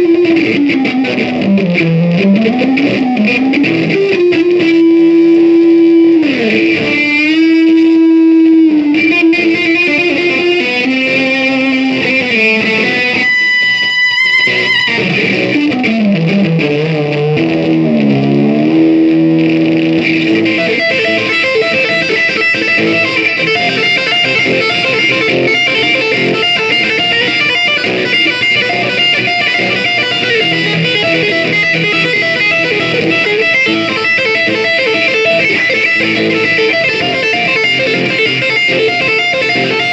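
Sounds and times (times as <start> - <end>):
band music: 0.0 - 39.9
electric guitar lead notes: 0.0 - 39.9.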